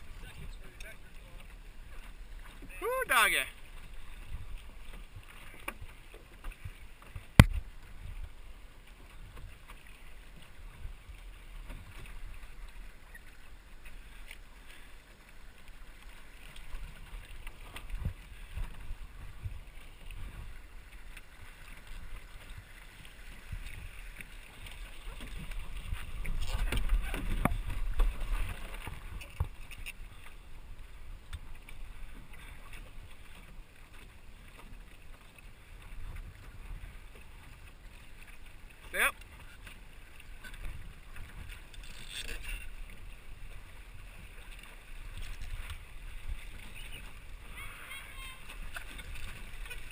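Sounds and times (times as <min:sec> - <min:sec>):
water rushing along a boat hull: 0:00.0 - 0:49.9.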